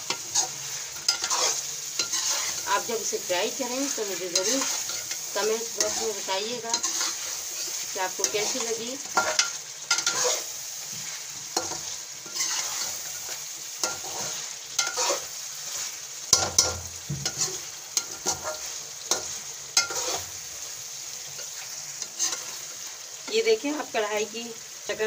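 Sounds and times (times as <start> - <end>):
metal spoon scraping a pan: 0.0 - 23.6
chicken sizzling in oil: 0.0 - 25.0.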